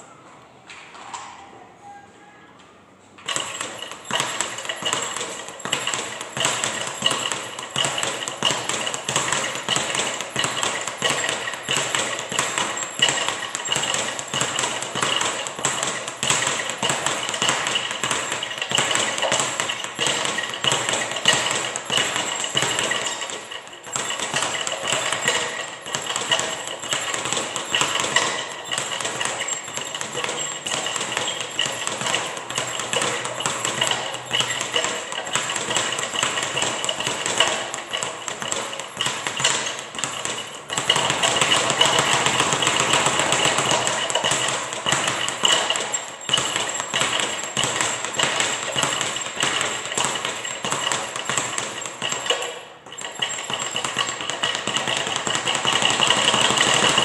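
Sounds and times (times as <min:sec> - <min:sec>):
speed bag being punched: 0:03.2 - 0:57.0.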